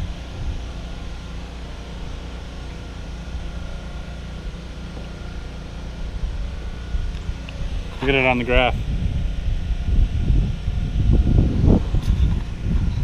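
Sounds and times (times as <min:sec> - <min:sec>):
low motor drone with thin whine: 0:00.0 - 0:13.0.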